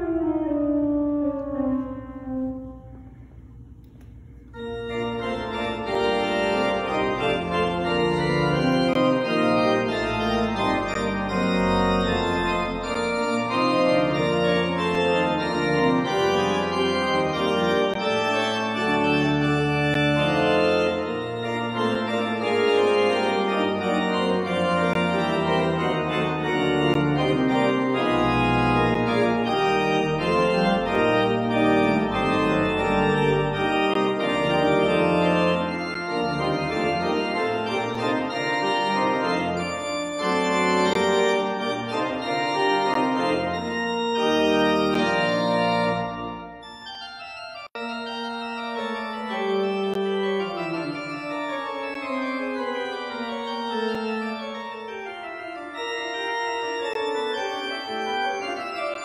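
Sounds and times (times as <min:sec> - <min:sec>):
organ music: 0:00.0 - 0:59.0.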